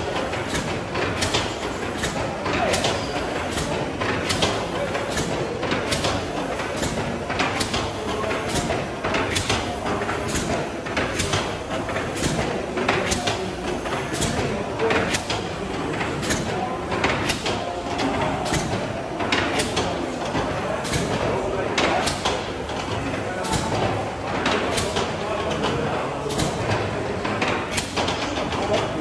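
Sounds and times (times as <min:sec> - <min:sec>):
steam engine rumbling: 0:00.0 - 0:29.0.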